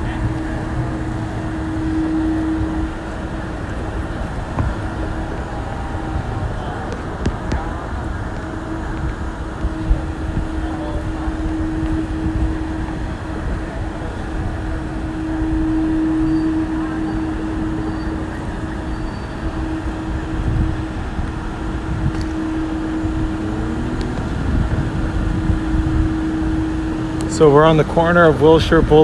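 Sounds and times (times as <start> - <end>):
passing vehicles rumble: 0.0 - 29.0.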